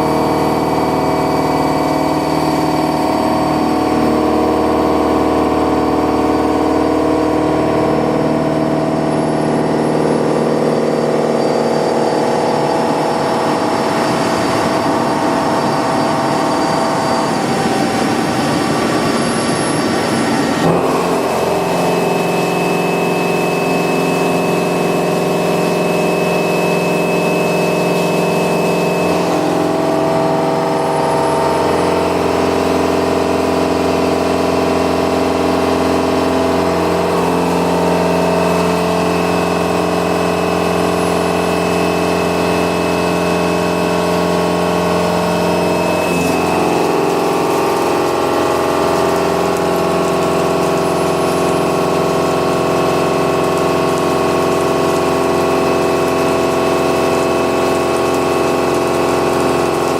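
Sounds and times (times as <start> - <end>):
milling machine cutting metal: 0.0 - 59.9.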